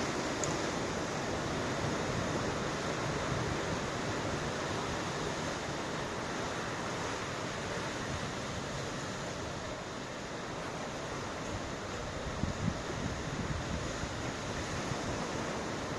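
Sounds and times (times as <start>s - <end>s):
ocean surf: 0.0s - 15.9s
wind: 0.0s - 15.9s.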